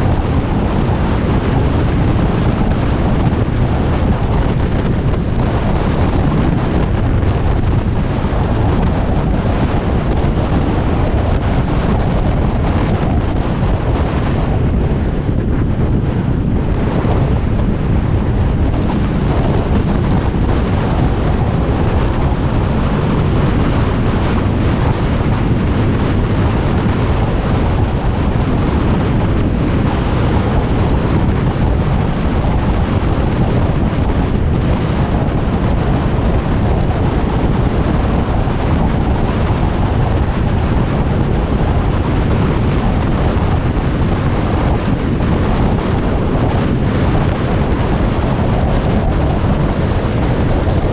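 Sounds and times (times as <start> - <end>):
wind rushing over microphone: 0.0 - 50.9.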